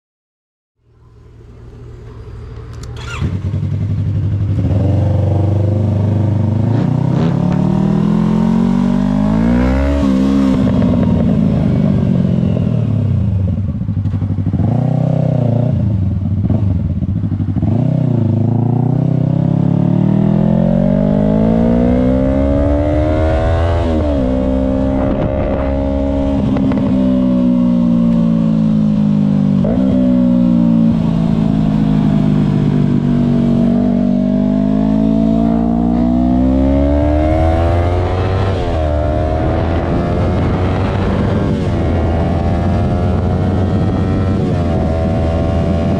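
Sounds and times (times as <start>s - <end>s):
motorcycle engine revving: 1.0s - 45.9s.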